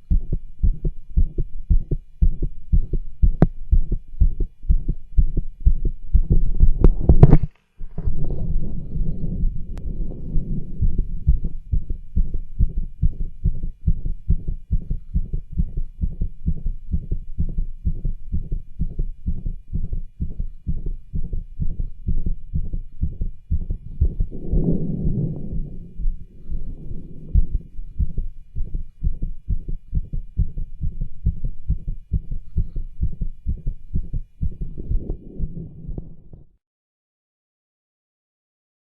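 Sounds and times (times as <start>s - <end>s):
heartbeat lub-dub: 0.0s - 36.5s
heart murmurs and rubs: 0.0s - 36.6s.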